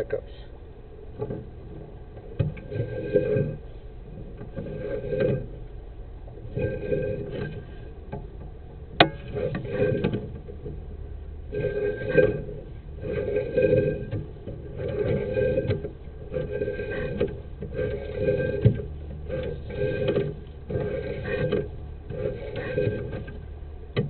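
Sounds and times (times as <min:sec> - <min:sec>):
rhythmic mechanical rasping: 0:00.0 - 0:24.0.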